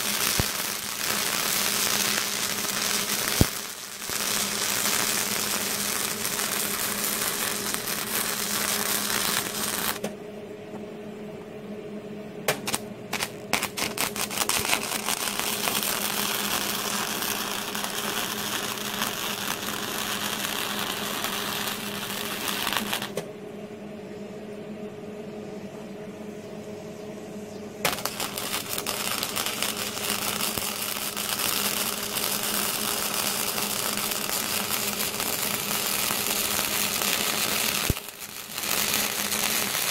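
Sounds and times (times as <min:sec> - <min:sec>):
welding arc crackling: 0:00.0 - 0:10.1, 0:12.5 - 0:23.2, 0:27.8 - 0:39.9
low steady hum: 0:00.0 - 0:39.9.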